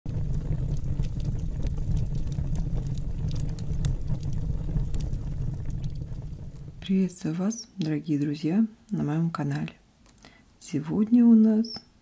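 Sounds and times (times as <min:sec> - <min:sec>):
log fire burning: 0:00.1 - 0:10.4.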